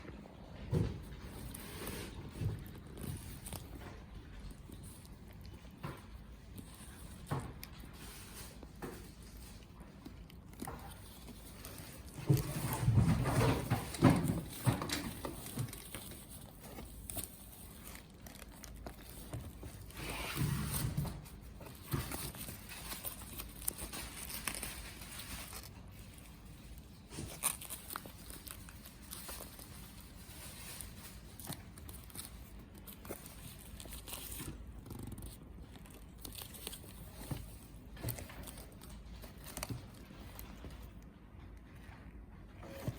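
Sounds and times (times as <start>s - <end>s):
packaging rustling and crinkling: 0.0s - 41.2s.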